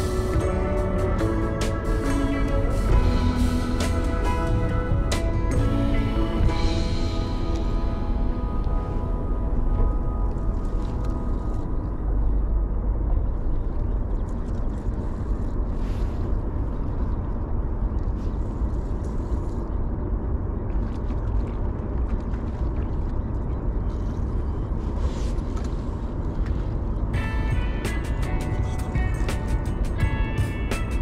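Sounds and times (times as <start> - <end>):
low rumbling outdoor noise: 0.0 - 31.0.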